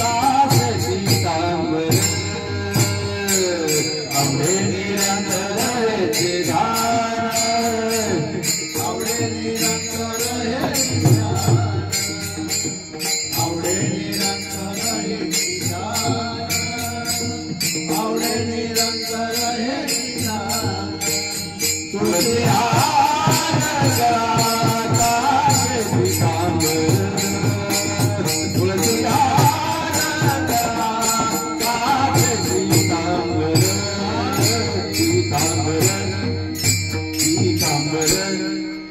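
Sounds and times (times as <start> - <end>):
devotional singing: 0.0 - 38.9
hand cymbals jingling: 0.0 - 38.9.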